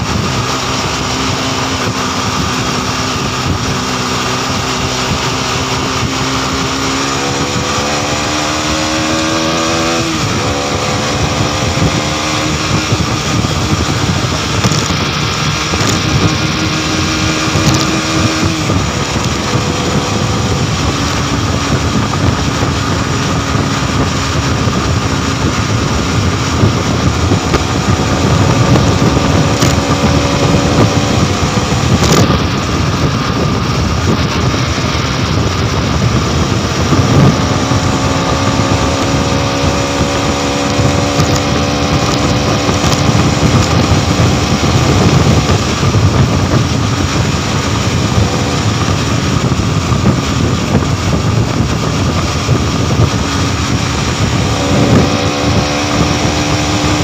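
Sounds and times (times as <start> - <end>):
motorcycle engine running hard: 0.0 - 57.0
wind rush on microphone: 0.0 - 57.0.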